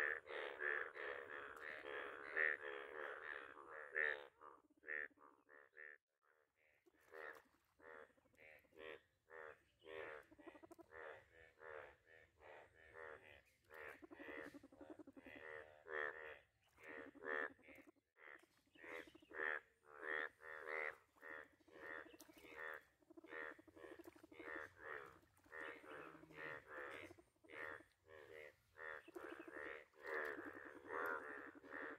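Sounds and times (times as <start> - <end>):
frogs croaking: 0.0 - 31.9.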